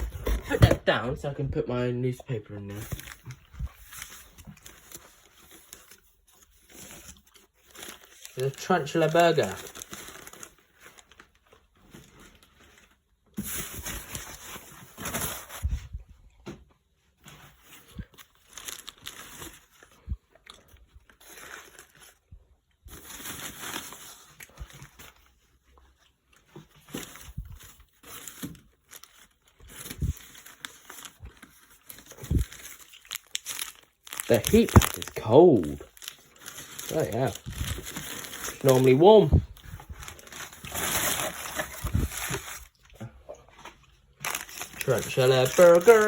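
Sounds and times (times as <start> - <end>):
paper crumpling and tearing: 2.7 - 15.7, 17.3 - 20.0, 21.1 - 22.2, 22.9 - 25.3, 26.8 - 42.8, 44.2 - 46.0.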